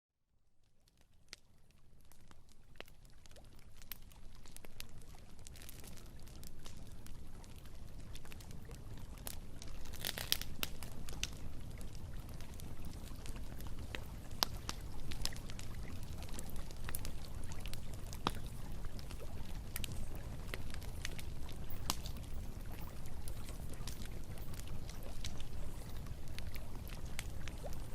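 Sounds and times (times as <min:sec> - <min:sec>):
campfire crackling and popping: 0:00.6 - 0:27.9.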